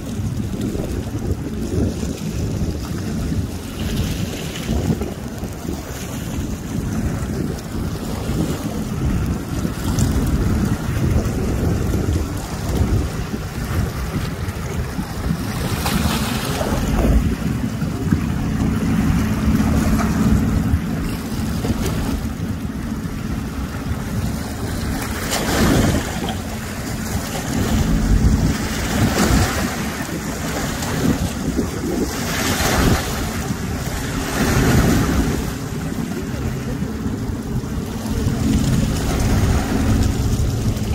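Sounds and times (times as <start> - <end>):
river water lapping: 0.0 - 40.9
wind buffeting microphone: 0.0 - 40.9
steady low hum: 4.9 - 40.9.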